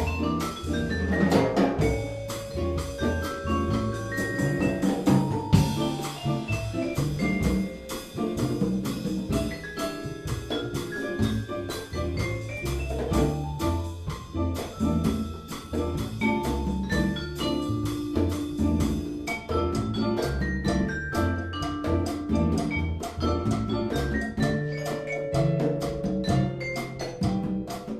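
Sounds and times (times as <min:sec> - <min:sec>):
hand percussion pulse: 0:00.0 - 0:27.9
mallet-struck melody: 0:00.0 - 0:27.9
string bass line: 0:00.0 - 0:27.9.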